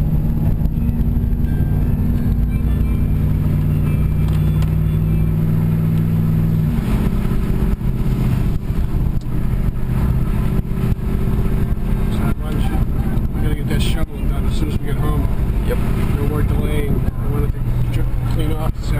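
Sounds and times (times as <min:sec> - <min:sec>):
truck engine running: 0:00.0 - 0:18.9.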